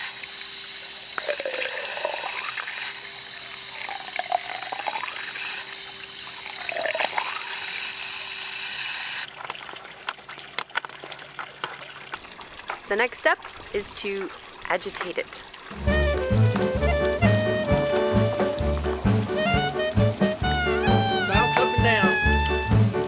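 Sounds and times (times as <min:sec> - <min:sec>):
water gurgling into tank: 0:00.0 - 0:08.6, 0:09.2 - 0:21.0.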